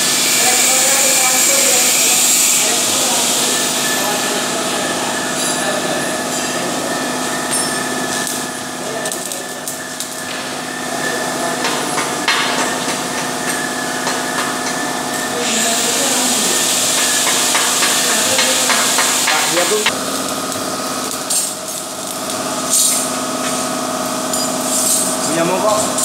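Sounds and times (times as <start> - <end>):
arc welding sizzling hiss: 0.0 - 26.0.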